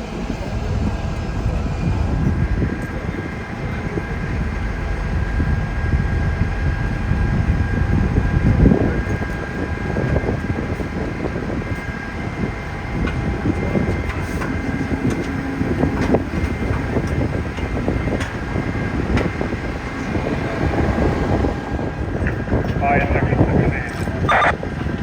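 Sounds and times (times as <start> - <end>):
diesel engines rumbling: 0.0 - 25.0
faint steady whining tones: 0.0 - 25.0.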